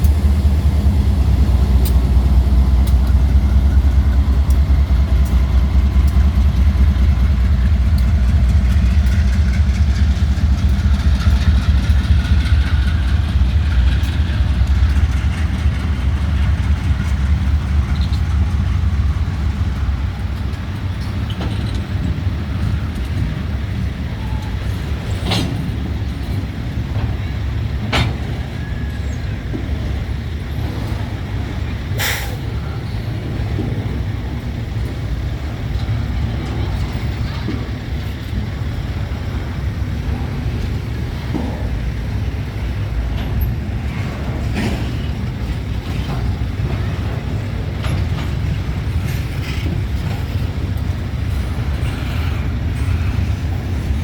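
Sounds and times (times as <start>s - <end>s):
locomotive engine rumble: 0.0s - 54.0s.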